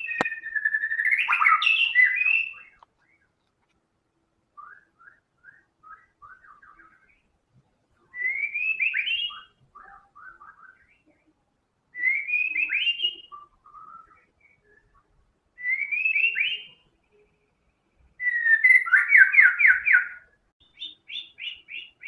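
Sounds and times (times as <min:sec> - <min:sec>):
bird singing whistled notes: 0:00.0 - 0:03.3, 0:04.5 - 0:07.3, 0:08.0 - 0:11.2, 0:11.9 - 0:17.4, 0:18.2 - 0:22.0.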